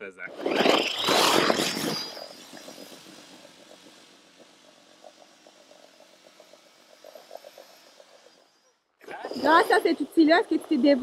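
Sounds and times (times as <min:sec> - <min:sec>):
brush sweeper motor humming: 0:00.3 - 0:11.0.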